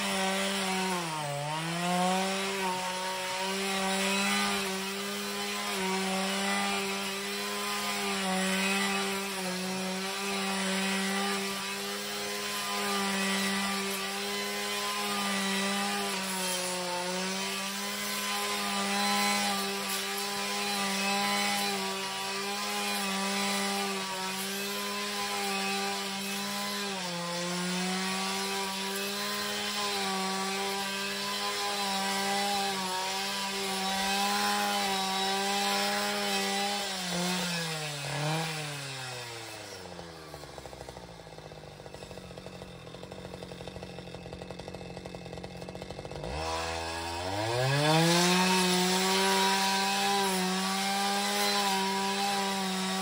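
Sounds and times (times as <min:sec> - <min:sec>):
brushcutter running at high revs: 0:00.0 - 0:53.0.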